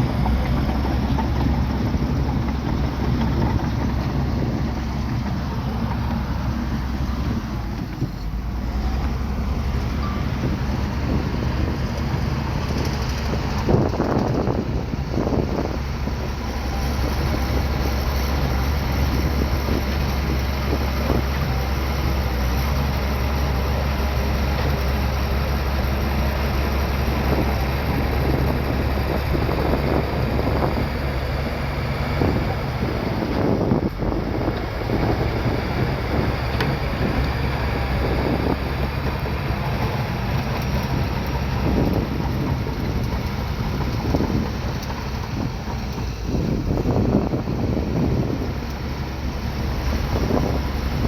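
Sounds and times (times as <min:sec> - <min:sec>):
bulldozer diesel engine running: 0:00.0 - 0:51.0.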